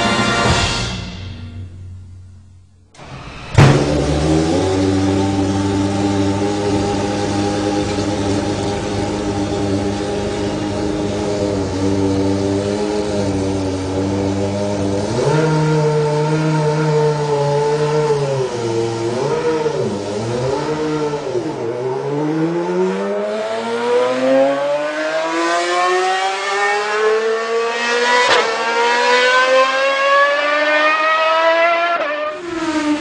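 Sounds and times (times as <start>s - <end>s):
car engine accelerating: 1.4s - 33.0s.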